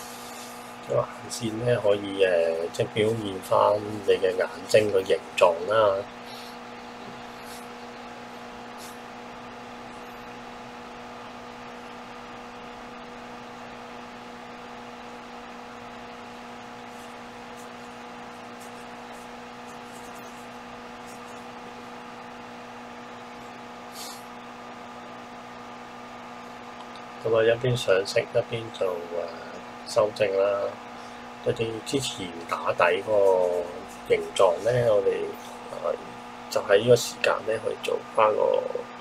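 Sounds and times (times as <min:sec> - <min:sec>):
electrical hum with hiss: 0:00.0 - 0:39.0.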